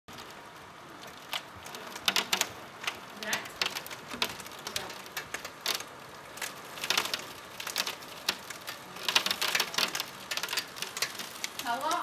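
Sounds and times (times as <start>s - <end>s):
rain beating against a window: 0.1s - 12.0s.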